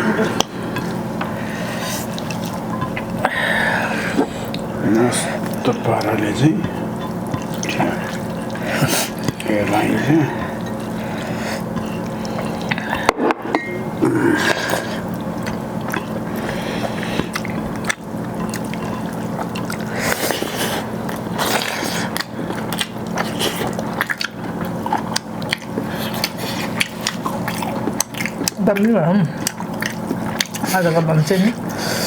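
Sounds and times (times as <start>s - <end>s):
steady low hum: 0.0s - 32.0s
wet chewing and mixing food: 0.0s - 32.0s.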